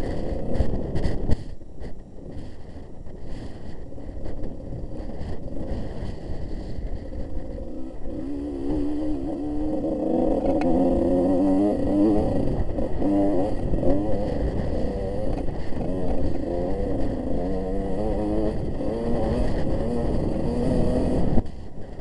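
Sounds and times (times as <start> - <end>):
motorcycle engine revving: 0.0 - 1.6, 3.2 - 22.0.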